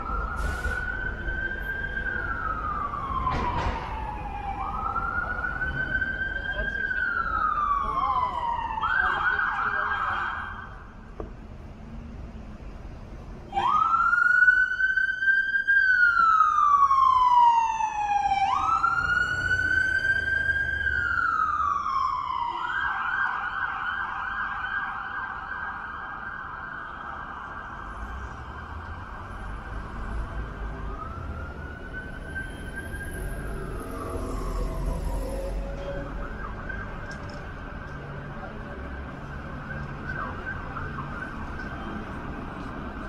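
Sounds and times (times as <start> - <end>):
emergency vehicle siren: 0.0 - 11.0, 13.5 - 43.0.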